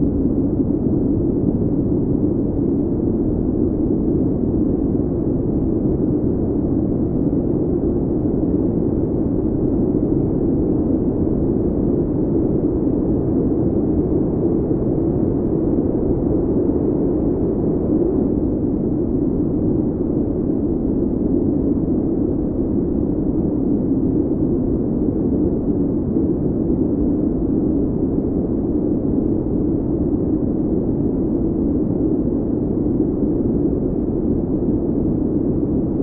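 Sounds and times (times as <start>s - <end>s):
snowstorm wind: 0.0s - 36.0s.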